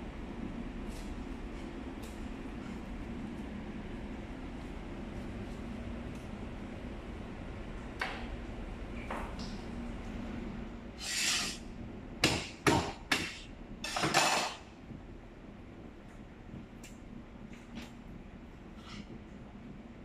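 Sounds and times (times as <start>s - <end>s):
refrigeration hum: 0.0s - 20.0s.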